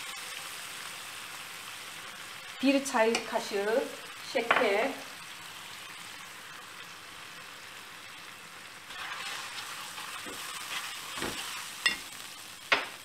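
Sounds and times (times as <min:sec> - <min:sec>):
sauce sizzling in frying pan: 0:00.0 - 0:13.0.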